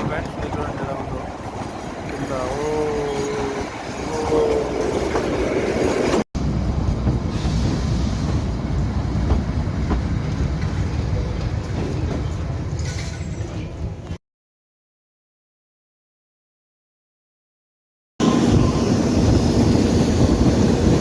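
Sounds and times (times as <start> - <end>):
train rumbling along track: 0.0 - 14.2, 18.2 - 21.0.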